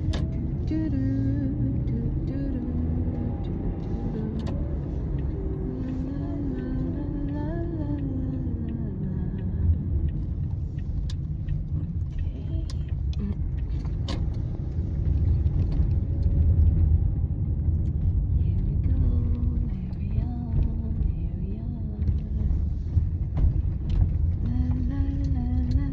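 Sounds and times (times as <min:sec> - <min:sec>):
car engine and road noise: 0:00.0 - 0:25.9.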